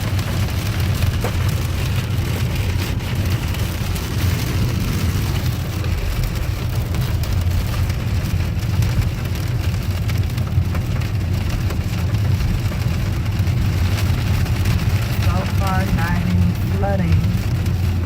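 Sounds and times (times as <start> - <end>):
car rumbling on wet road: 0.0 - 18.0
rain pattering on a car: 0.0 - 18.0.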